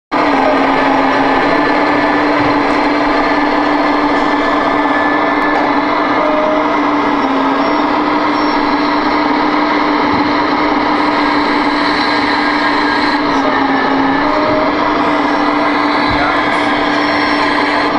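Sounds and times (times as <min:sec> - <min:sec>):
electronic diesel engine sound: 0:00.1 - 0:17.9.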